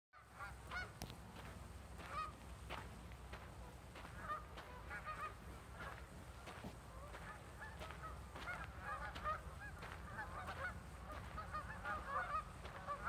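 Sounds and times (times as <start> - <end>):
geese honking: 0.2 - 13.0
steady low rumble: 0.3 - 13.0.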